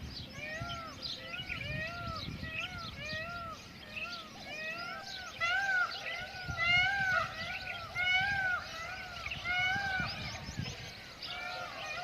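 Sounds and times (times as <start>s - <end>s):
peafowl calling: 0.4s - 12.0s.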